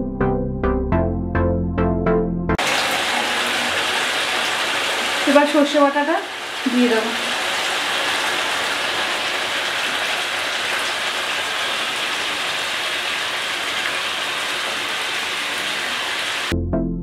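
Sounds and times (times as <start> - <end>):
curry simmering and sizzling: 2.6 - 16.5.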